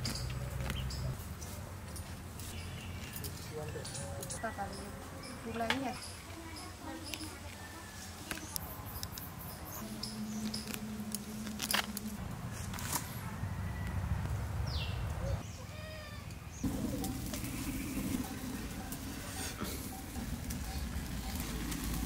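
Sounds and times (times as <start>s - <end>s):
birds chirping and calling: 0.0s - 13.3s, 14.6s - 22.0s.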